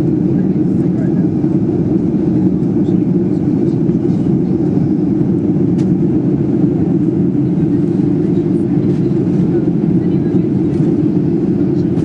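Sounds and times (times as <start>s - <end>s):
airplane cabin engine drone: 0.0s - 12.0s.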